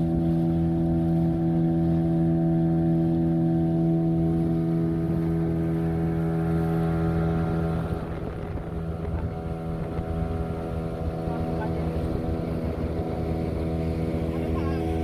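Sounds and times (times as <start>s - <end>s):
motorboat engine running: 0.0s - 15.0s
rumble of wind: 0.0s - 15.0s
water: 0.0s - 15.0s.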